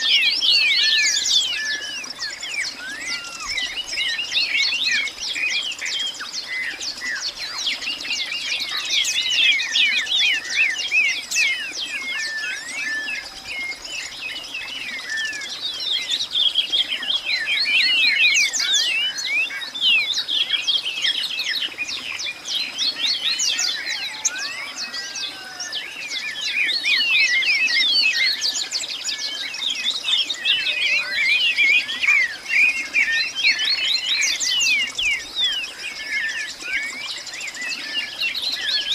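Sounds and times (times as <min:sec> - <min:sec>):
chorus of birds chirping: 0:00.0 - 0:38.9.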